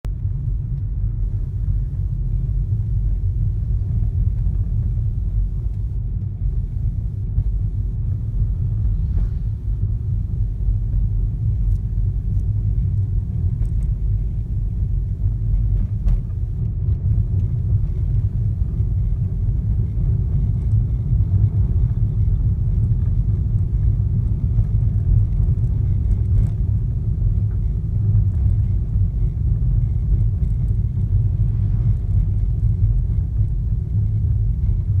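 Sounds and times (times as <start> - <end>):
car driving rumble from inside: 0.0 - 35.0.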